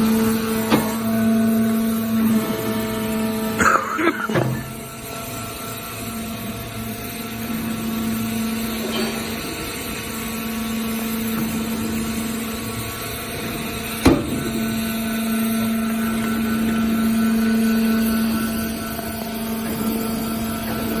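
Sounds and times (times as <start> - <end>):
hydraulic power unit humming: 0.0 - 21.0.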